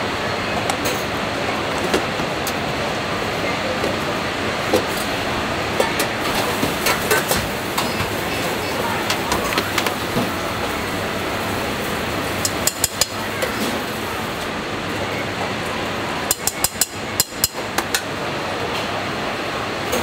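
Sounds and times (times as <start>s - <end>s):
kitchen background noise: 0.0s - 20.0s.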